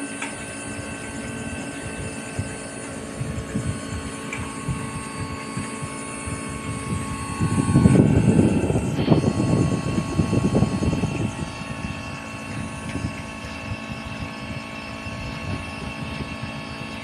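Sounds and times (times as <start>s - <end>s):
fan motors humming and whining: 0.0s - 17.0s
low buffeting rumble: 0.0s - 17.0s.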